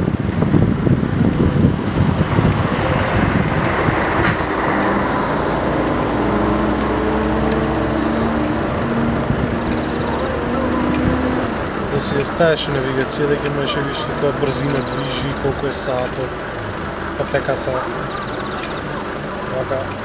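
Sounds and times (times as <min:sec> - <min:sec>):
wind buffeting microphone: 0:00.0 - 0:19.5
vehicle engine humming: 0:00.0 - 0:20.0.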